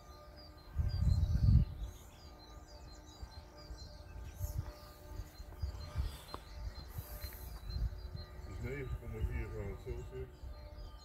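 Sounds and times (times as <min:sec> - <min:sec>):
songbirds chirping: 0:00.0 - 0:11.0
wind rumbling on microphone: 0:00.5 - 0:02.2, 0:03.5 - 0:11.0.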